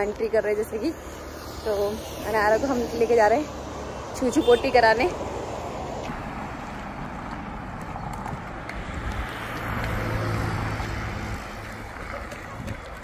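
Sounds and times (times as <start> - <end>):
background traffic noise: 0.0 - 13.0
passing vehicle engine and tyres: 0.0 - 13.0.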